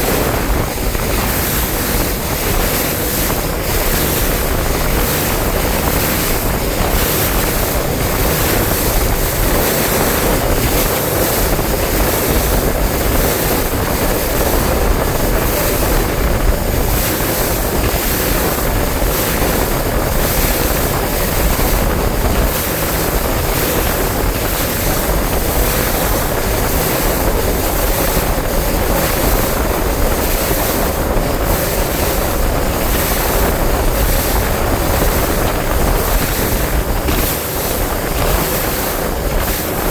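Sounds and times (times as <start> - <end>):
water rushing and splashing: 0.0 - 39.9
wind buffeting microphone: 0.0 - 39.9.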